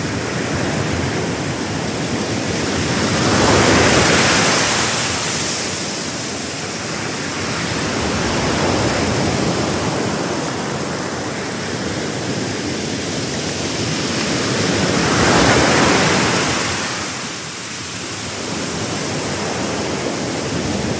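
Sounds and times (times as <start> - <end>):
sea waves breaking on shore: 0.0 - 20.9.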